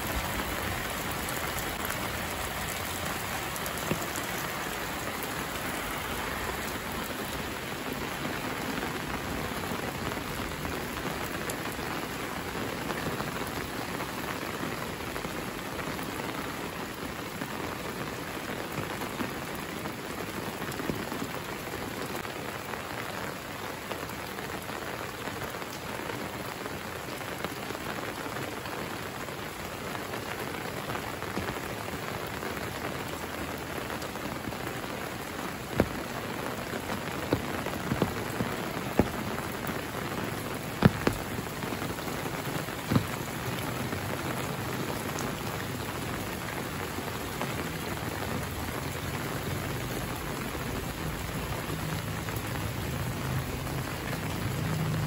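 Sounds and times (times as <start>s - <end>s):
rain on pavement and leaves: 0.0s - 55.0s.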